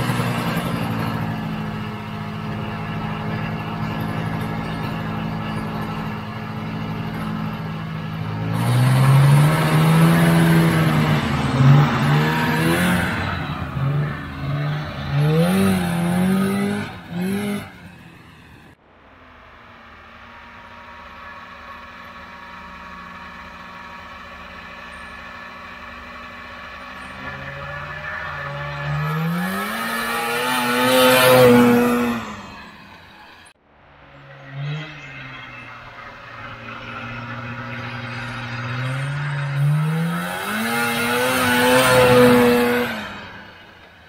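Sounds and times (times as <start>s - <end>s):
snowmobile engine revving: 0.0s - 18.8s, 19.7s - 44.0s.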